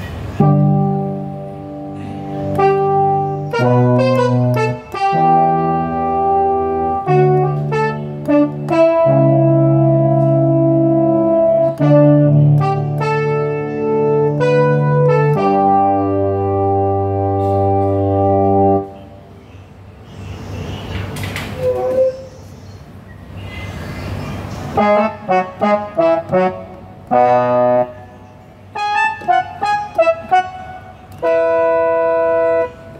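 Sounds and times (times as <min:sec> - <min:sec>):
keyboard playing held chords: 0:00.0 - 0:19.4, 0:24.4 - 0:32.9.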